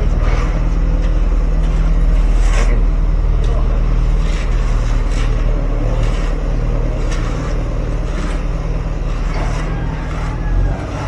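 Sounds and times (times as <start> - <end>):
engine running with deep hum: 0.0 - 11.0.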